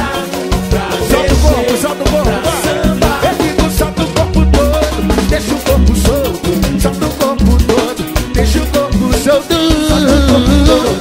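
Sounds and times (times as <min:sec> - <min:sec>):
upbeat dance music: 0:00.0 - 0:11.0.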